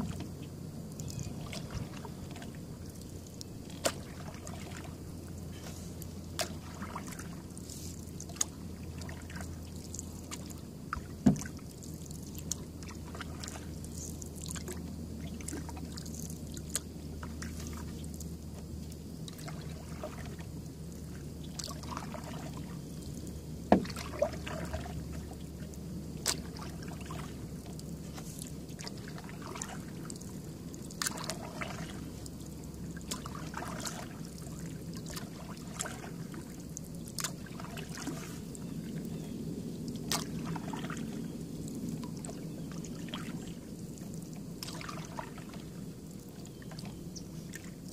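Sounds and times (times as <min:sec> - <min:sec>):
paddle strokes and drips: 0:00.0 - 0:47.9.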